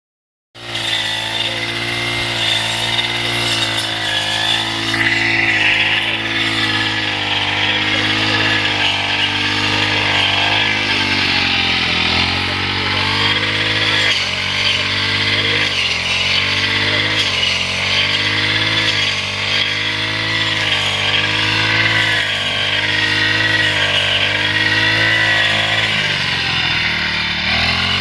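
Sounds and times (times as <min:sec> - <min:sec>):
lawn mower engine running: 0:00.6 - 0:28.0.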